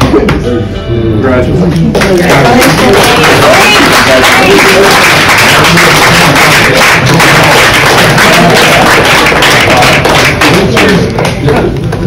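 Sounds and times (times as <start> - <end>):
crowd clapping and cheering: 1.8 - 12.0.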